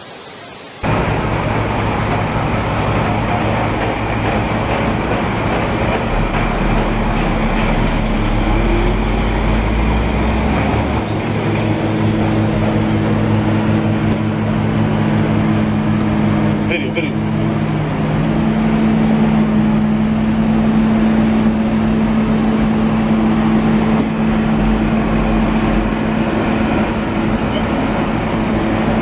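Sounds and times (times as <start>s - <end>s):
large engine humming: 0.0s - 29.0s
loud rushing noise: 0.0s - 29.0s.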